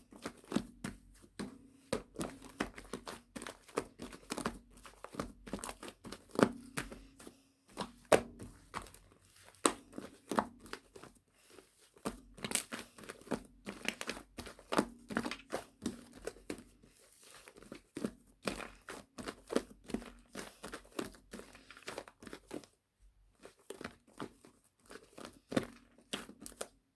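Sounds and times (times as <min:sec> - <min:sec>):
crinkling handling noise: 0:02.1 - 0:26.8.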